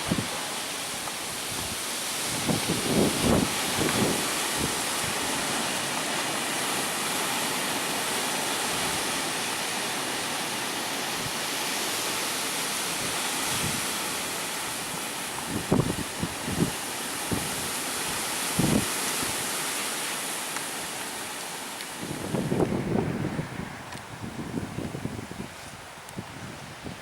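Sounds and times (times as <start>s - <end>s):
storm wind rushing: 0.0s - 19.7s, 21.9s - 27.0s
wind gusts buffeting microphone: 0.0s - 27.0s.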